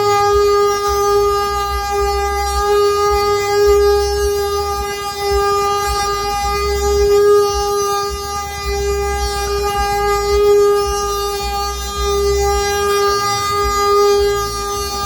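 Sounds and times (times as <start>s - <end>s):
wooden cart axle droning: 0.0s - 15.0s.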